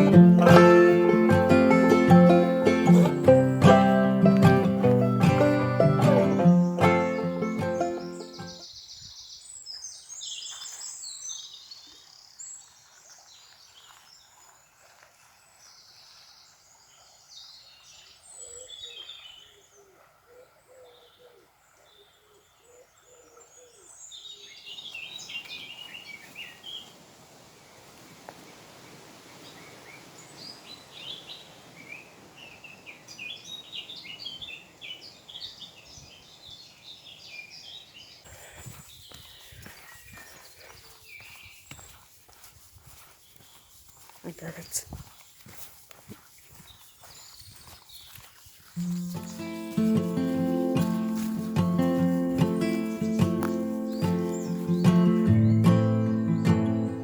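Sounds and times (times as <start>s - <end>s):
songbirds singing and chirping: 0.0s - 27.0s, 29.3s - 57.0s.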